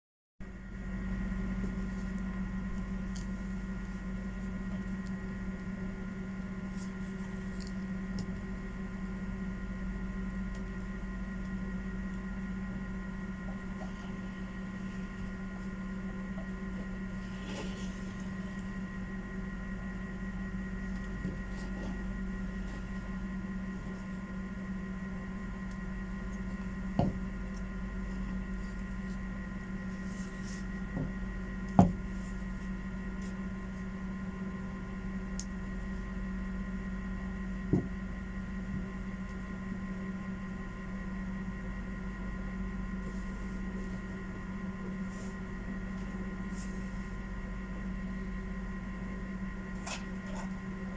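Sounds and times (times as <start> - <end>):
electrical machine hum: 0.4 - 50.9.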